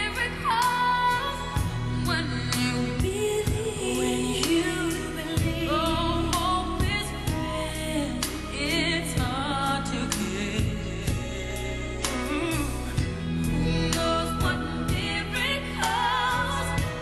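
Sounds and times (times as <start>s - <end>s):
song with vibrato singing: 0.0s - 17.0s.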